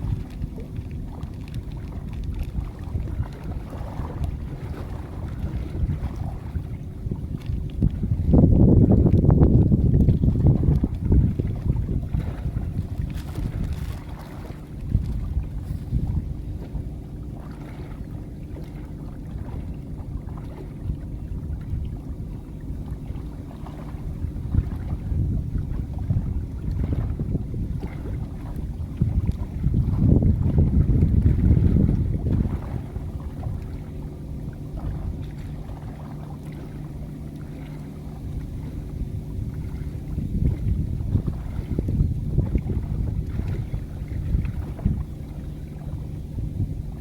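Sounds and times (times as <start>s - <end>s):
small boat engine running: 0.0s - 47.0s
wind rumble on microphone: 0.0s - 47.0s.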